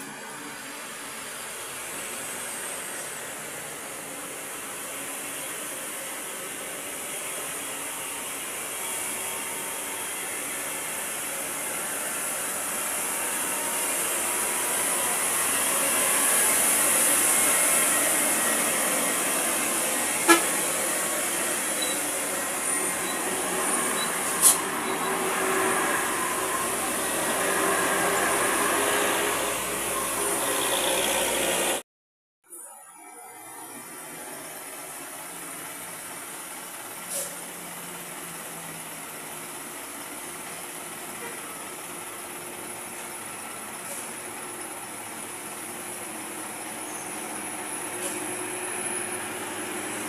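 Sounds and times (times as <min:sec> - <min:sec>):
road traffic passing: 0:00.0 - 0:31.8, 0:33.8 - 0:50.0.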